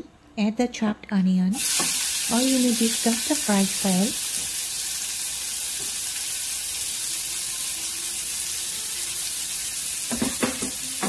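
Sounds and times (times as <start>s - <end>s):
onions sizzling in hot oil: 1.6s - 11.0s.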